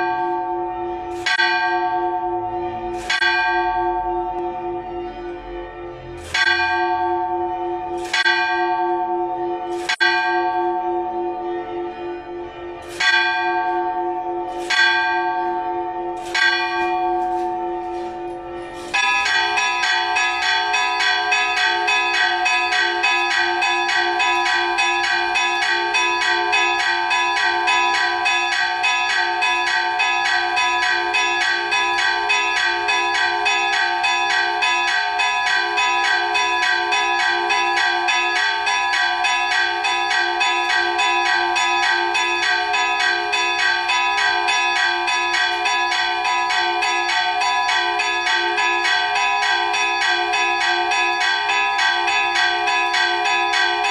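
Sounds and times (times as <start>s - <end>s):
church bells ringing rapidly: 0.0s - 53.9s.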